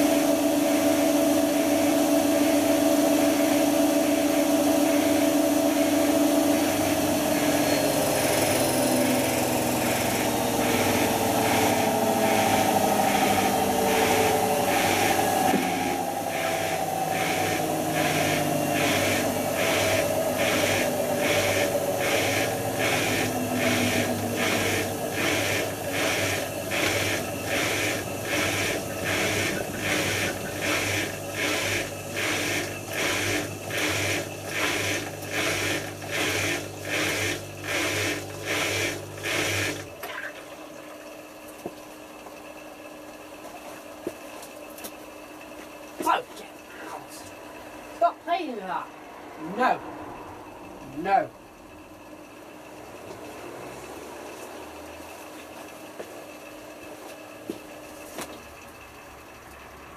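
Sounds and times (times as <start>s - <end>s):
washing machine motor whine: 0.0s - 59.9s.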